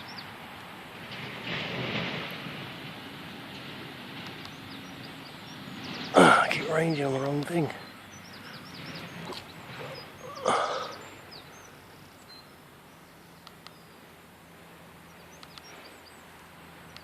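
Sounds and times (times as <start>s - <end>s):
small birds chirping: 0.0s - 1.0s, 4.2s - 17.0s
breathy rush of noise: 0.2s - 16.9s.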